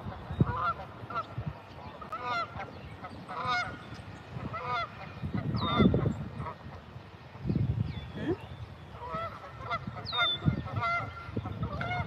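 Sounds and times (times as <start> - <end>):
geese honking: 0.0 - 6.9, 9.0 - 12.0.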